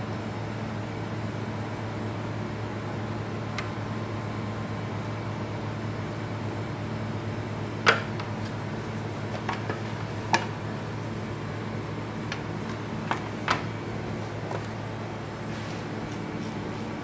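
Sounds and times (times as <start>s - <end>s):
kitchen fan humming: 0.0s - 17.0s.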